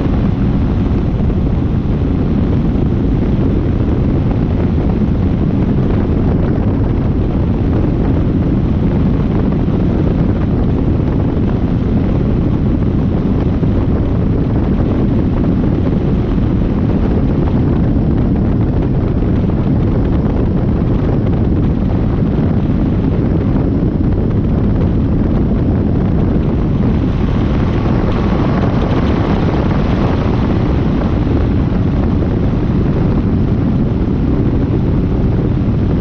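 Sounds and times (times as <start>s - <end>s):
airplane engine drone: 0.0s - 36.0s
wind rushing on microphone: 0.0s - 36.0s.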